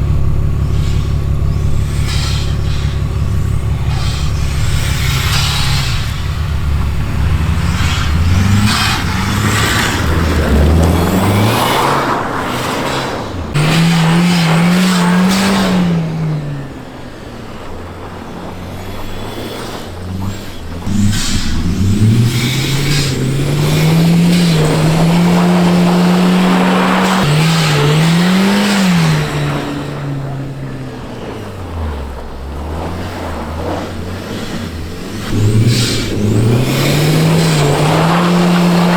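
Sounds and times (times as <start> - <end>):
turbocharged car engine revving: 0.0 - 38.9.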